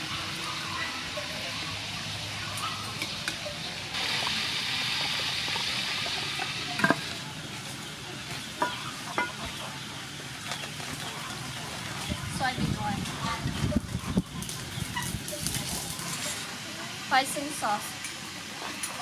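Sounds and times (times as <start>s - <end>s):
meat deep-frying sizzle: 0.0s - 19.0s.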